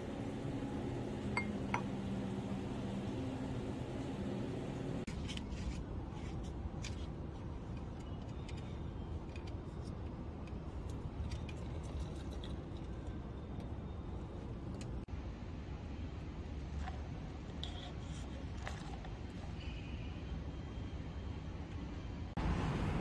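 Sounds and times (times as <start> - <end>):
low city rumble: 0.0 - 23.0.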